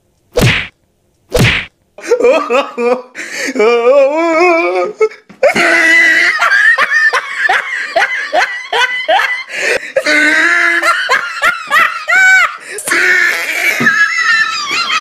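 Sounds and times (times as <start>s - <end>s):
person laughing hard: 2.0s - 4.8s, 5.4s - 15.0s.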